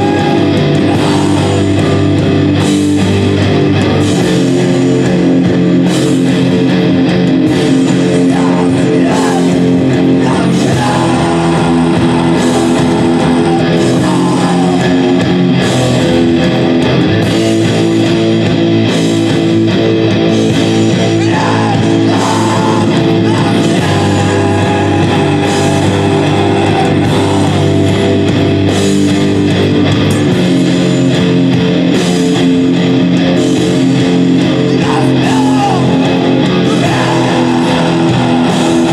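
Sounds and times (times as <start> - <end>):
electric guitar chords: 0.0 - 38.9
live rock music: 0.0 - 38.9.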